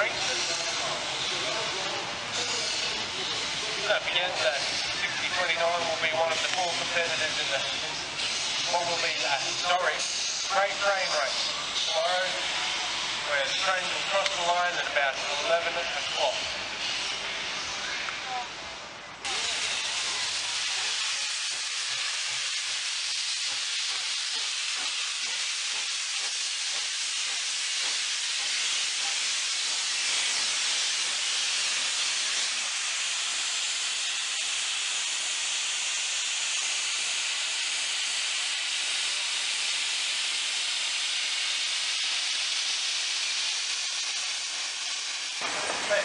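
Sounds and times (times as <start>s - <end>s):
steam locomotive hissing: 0.0s - 46.0s.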